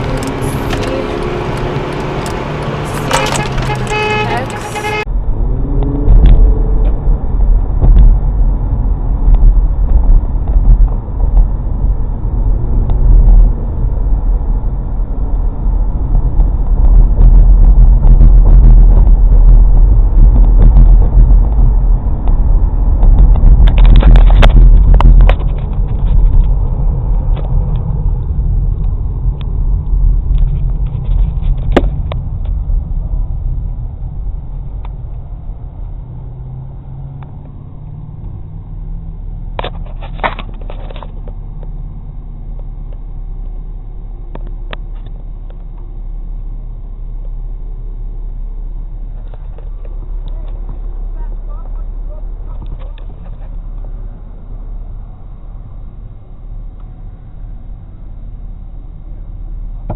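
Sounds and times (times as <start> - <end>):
car rumbling on the move: 0.0 - 59.9.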